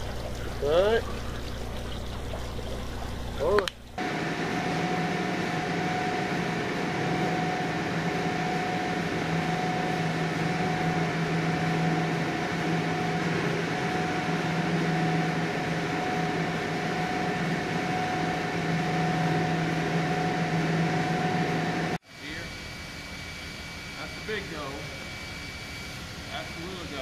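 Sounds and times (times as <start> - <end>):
high steady machine tone: 0.0 - 27.0
machinery humming: 0.0 - 27.0.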